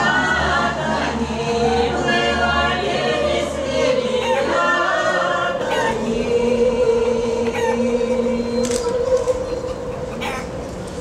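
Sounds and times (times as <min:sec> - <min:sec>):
choir singing: 0:00.0 - 0:10.6.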